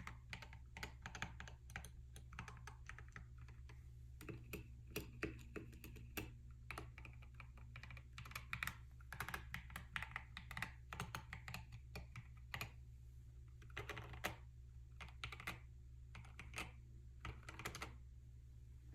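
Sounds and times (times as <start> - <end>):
mechanical keyboard typing: 0.0 - 12.8, 13.6 - 18.0
steady low hum: 0.0 - 18.9.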